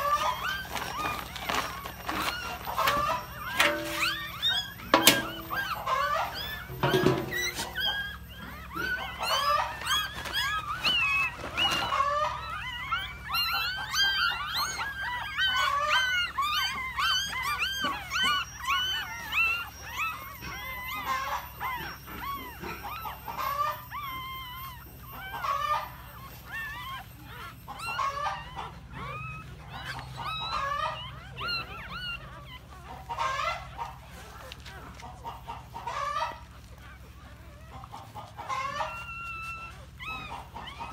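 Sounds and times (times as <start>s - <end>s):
newborn puppies crying: 0.0s - 40.9s.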